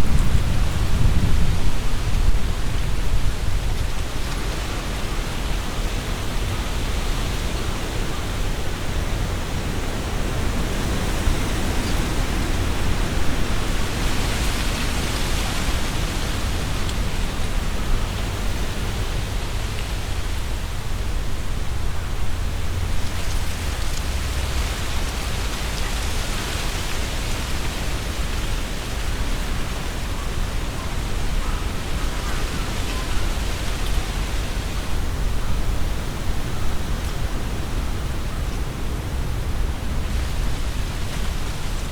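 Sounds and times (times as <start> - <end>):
leaves rustling: 0.0 - 41.9
wind gusting through trees: 0.0 - 41.9.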